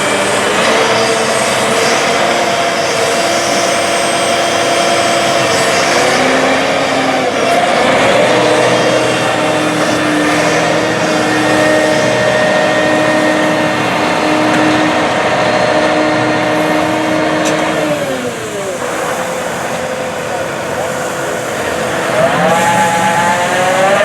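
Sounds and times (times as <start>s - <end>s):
heavy diesel machinery running: 0.0s - 24.0s
steady machine whine: 0.0s - 24.0s.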